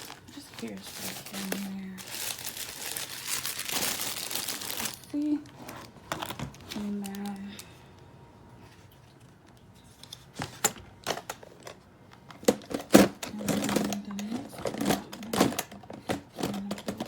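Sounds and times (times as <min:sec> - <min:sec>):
items clattering in metal case: 0:00.0 - 0:07.3, 0:10.4 - 0:17.0.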